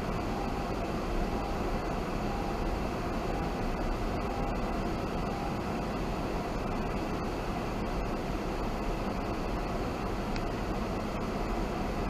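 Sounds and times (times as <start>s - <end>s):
car cabin rumble with hiss: 0.0s - 12.0s.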